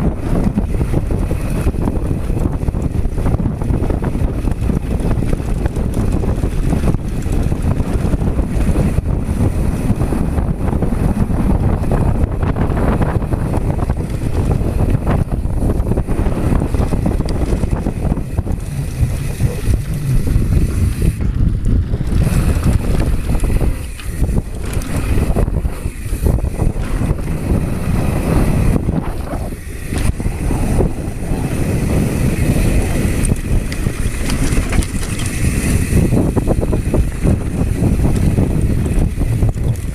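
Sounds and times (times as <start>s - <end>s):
bike tyres rumbling on dirt: 0.0s - 39.9s
wind rushing over microphone: 0.0s - 39.9s.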